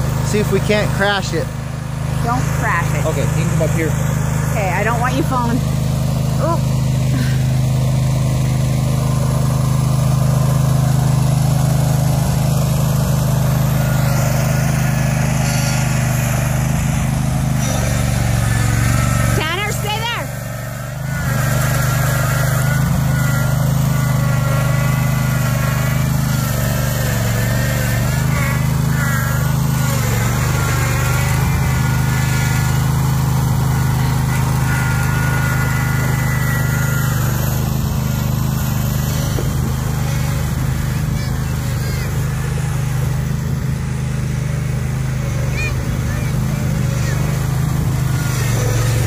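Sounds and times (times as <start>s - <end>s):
small gasoline engine running: 0.0s - 49.0s.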